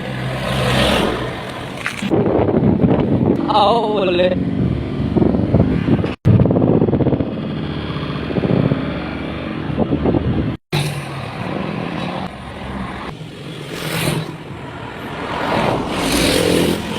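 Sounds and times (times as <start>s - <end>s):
road traffic noise: 0.0s - 16.9s.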